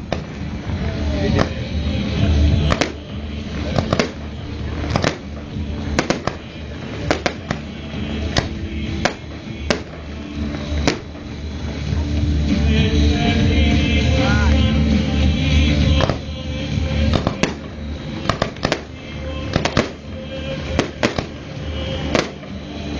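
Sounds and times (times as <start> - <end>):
fireworks bangs: 0.0 - 22.9
loud music: 0.0 - 22.9.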